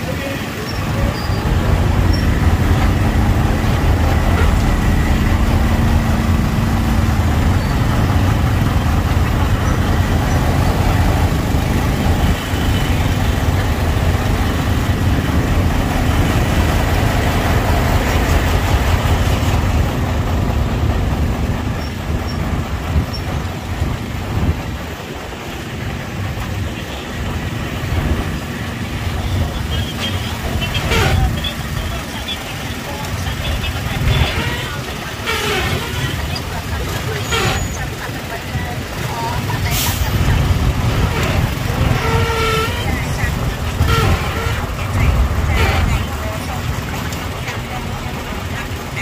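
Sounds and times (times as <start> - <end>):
motorbike and truck engines rumbling: 0.0 - 49.0.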